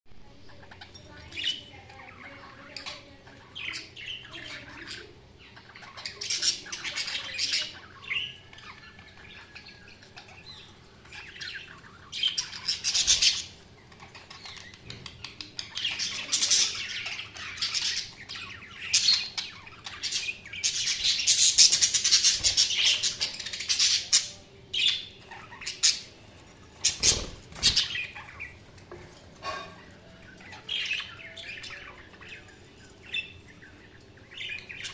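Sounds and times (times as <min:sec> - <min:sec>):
budgerigars chirping and chattering: 0:00.4 - 0:34.9.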